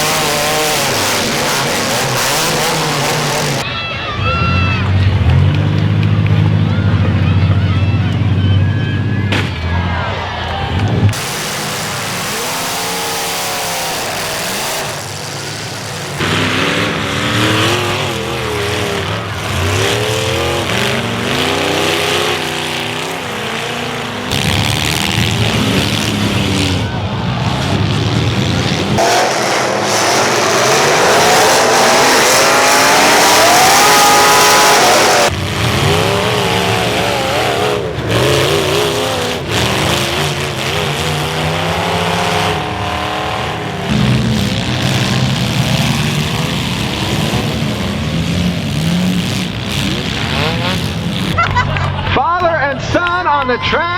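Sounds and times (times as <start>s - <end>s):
car engines revving hard: 0.0s - 3.7s, 4.3s - 53.4s.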